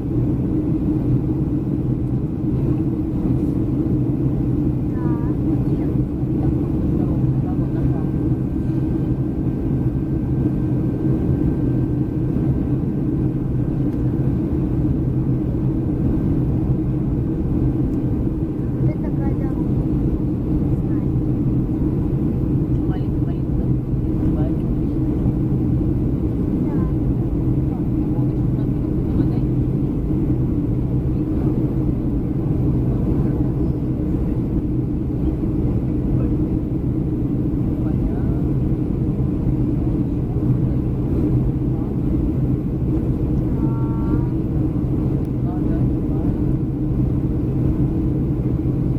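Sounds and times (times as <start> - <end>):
airliner cabin engine drone: 0.0 - 48.9
steady low hum: 0.0 - 48.9.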